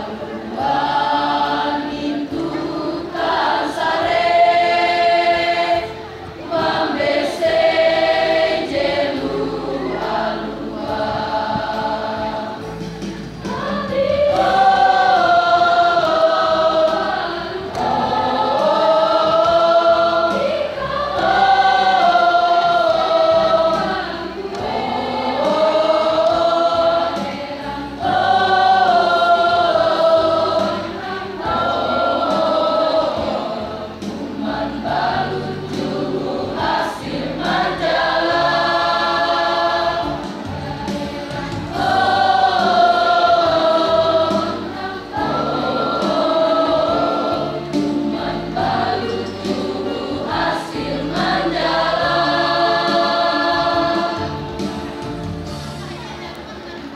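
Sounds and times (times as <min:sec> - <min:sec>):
choir singing: 0:00.0 - 0:56.9.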